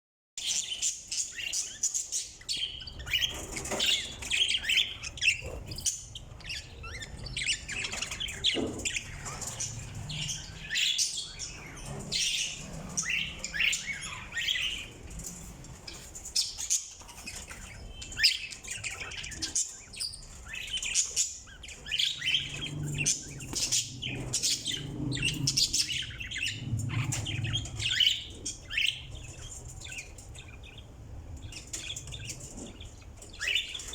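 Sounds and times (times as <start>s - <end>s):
birds chirping and chattering: 0.4s - 33.9s.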